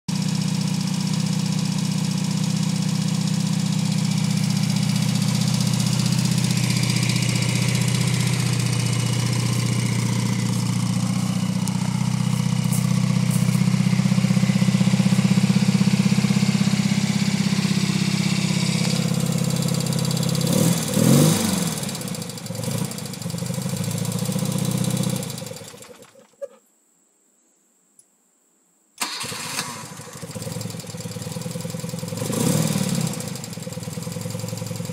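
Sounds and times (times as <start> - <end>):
motorcycle engine idling: 0.1 - 26.2, 29.8 - 34.9.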